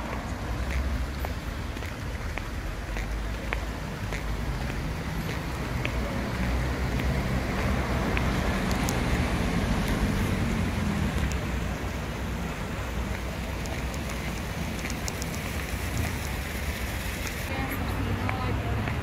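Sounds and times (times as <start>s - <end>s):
passing car traffic: 0.0s - 19.0s.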